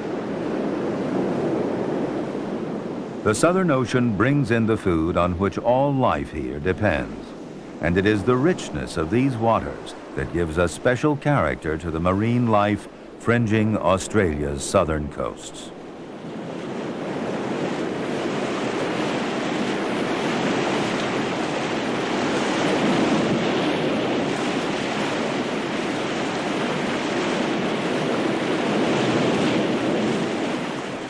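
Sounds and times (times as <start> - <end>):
ocean waves washing: 0.0 - 31.0.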